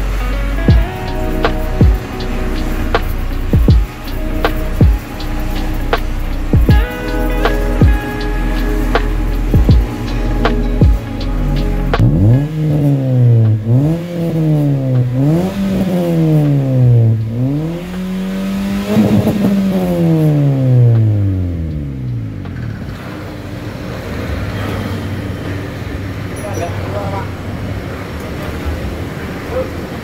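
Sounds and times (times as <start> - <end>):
engine revving with racing exhaust: 0.0 - 30.0.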